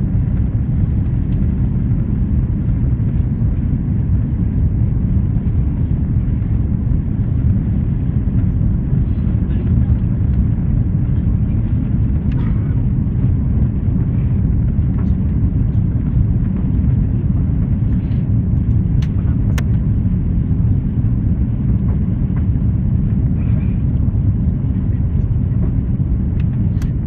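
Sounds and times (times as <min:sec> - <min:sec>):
airliner cabin rumble: 0:00.0 - 0:27.0.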